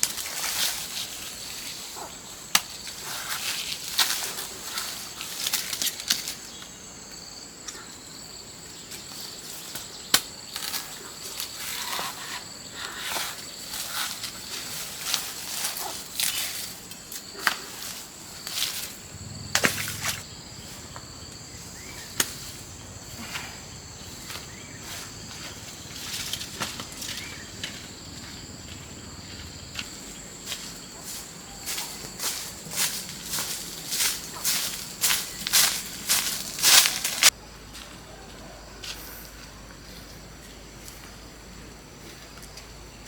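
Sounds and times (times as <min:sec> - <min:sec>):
insects trilling: 0:00.0 - 0:37.4.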